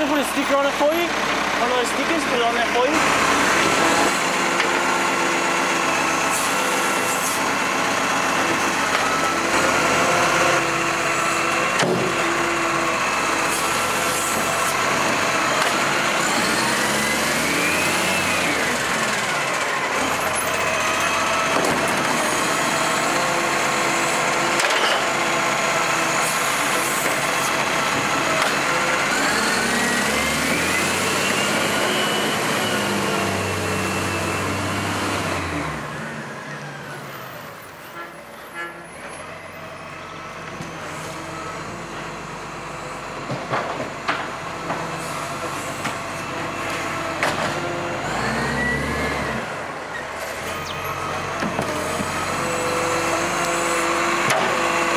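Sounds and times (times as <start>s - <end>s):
garbage truck diesel engine running: 0.0s - 54.9s.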